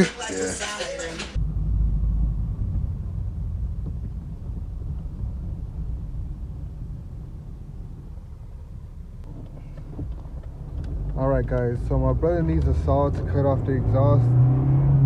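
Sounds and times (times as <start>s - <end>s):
low steady rumble: 1.4s - 15.0s.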